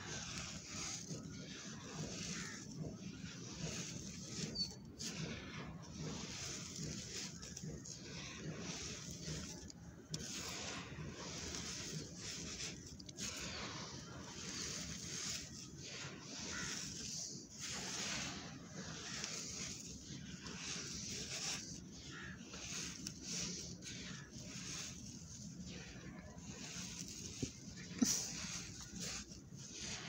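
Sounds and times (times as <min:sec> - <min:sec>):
falling grains hissing: 0:00.0 - 0:04.5, 0:06.1 - 0:30.0
sandy soil crunching in hands: 0:00.0 - 0:30.0.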